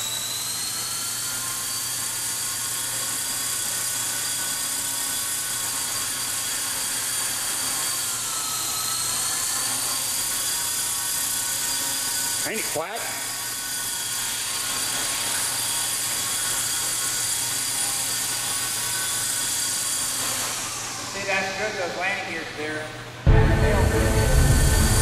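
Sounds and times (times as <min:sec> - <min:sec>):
model helicopter whine: 0:00.0 - 0:25.0.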